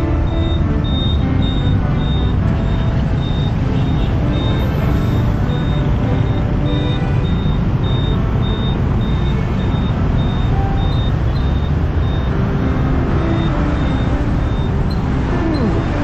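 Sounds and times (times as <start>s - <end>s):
high electronic beep: 0.0s - 16.0s.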